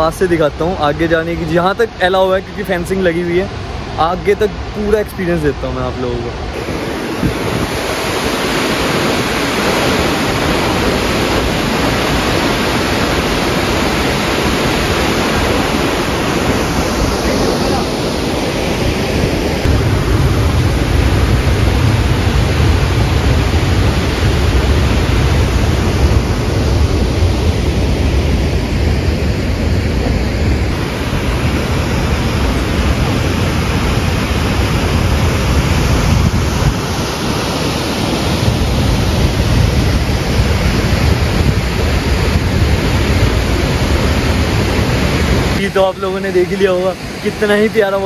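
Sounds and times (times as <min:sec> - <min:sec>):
waterfall rushing: 0:00.0 - 0:48.0
wind on microphone: 0:00.0 - 0:48.0.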